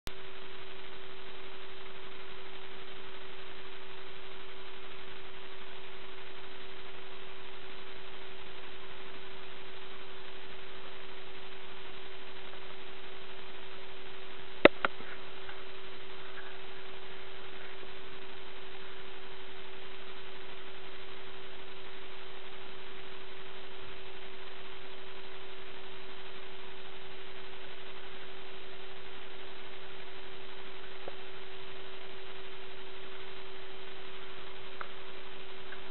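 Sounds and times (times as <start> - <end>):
constant hiss: 0.1 - 35.9
steady hum: 0.1 - 35.9.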